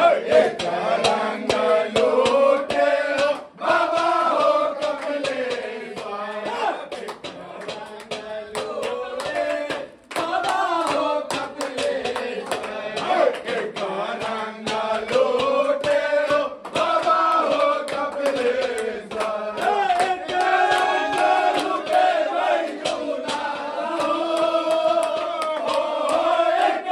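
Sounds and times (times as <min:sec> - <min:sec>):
hand clapping: 0:00.0 - 0:26.9
men singing together: 0:00.0 - 0:26.9.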